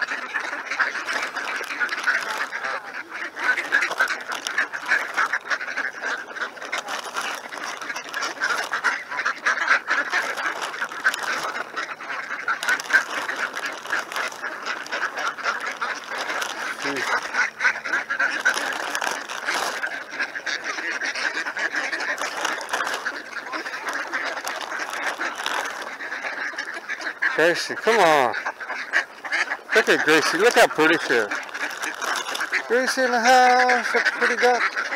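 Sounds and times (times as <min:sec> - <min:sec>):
ducks quacking: 0:00.0 - 0:34.9.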